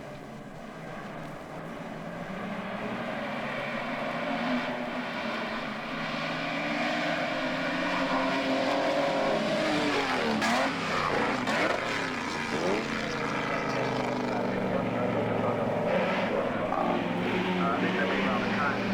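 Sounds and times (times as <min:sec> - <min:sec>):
racing car engines at speed: 0:00.0 - 0:18.9
racing car passing close: 0:00.9 - 0:18.9.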